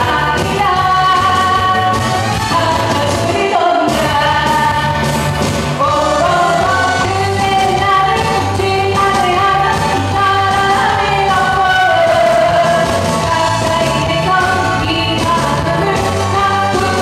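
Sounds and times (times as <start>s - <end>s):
backing track with steady beat: 0.0s - 17.0s
woman singing into a microphone: 0.0s - 17.0s.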